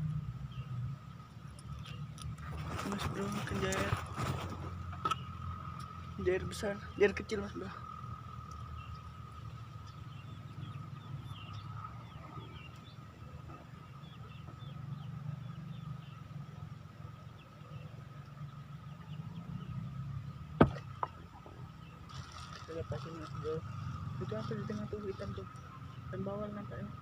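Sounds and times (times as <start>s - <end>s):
steady low hum: 0.0s - 27.0s
faint bird chirps: 5.0s - 27.0s.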